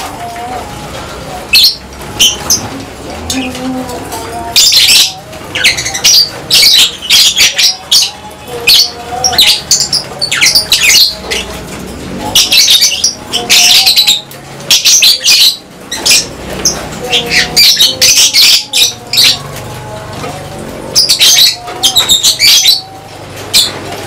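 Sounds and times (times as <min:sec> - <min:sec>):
lovebirds squawking and chirping: 0:00.6 - 0:03.6, 0:04.4 - 0:24.0.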